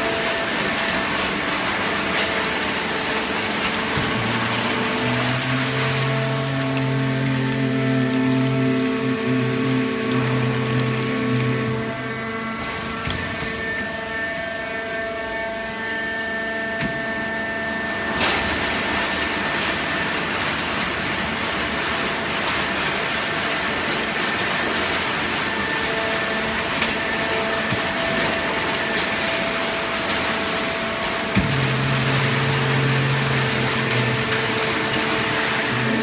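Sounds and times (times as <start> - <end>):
baler hissing and humming: 0.0 - 15.9, 17.5 - 36.0.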